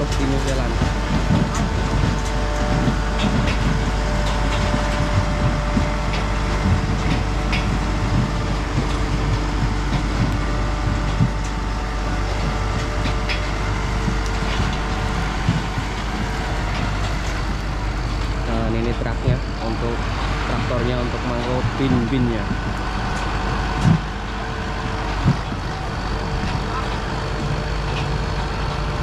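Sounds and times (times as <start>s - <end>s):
conveyor humming: 0.0s - 29.0s.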